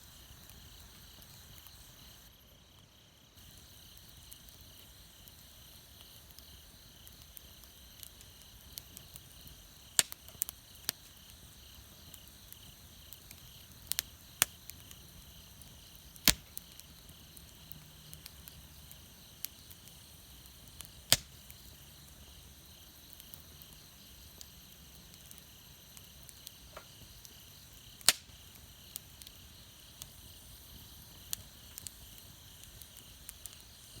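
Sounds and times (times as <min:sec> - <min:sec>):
campfire crackling and popping: 0:00.0 - 0:34.0
insects chirring: 0:00.0 - 0:34.0.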